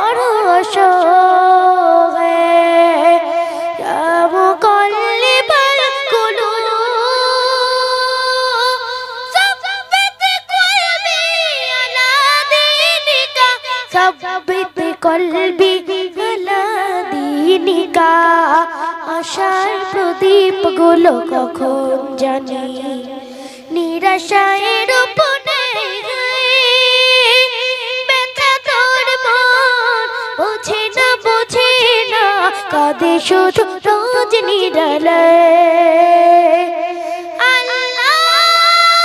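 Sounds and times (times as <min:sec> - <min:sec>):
boy singing into a microphone: 0:00.0 - 0:39.0.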